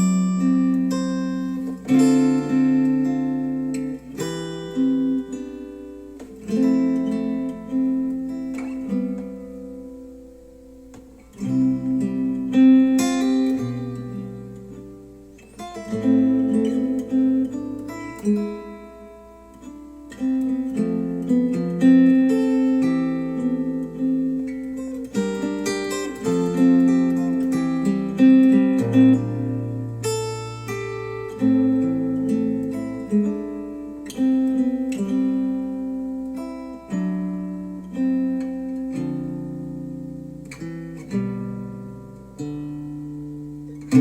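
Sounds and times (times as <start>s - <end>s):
acoustic guitar music: 0.0s - 44.0s.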